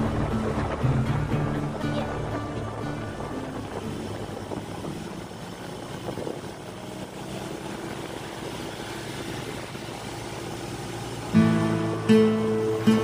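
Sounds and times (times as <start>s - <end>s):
wind rush over microphone: 0.0s - 10.9s
motorcycle engine drone: 0.0s - 13.0s.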